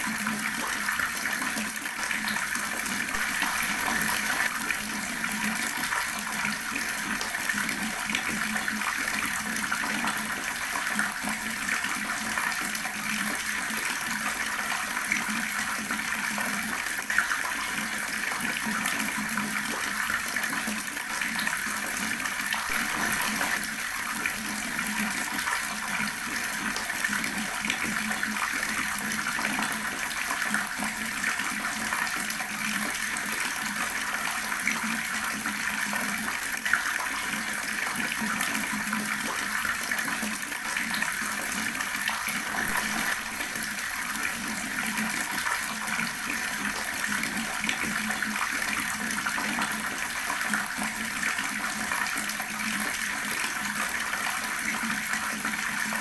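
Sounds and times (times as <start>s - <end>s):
water running from tap: 0.0s - 56.0s.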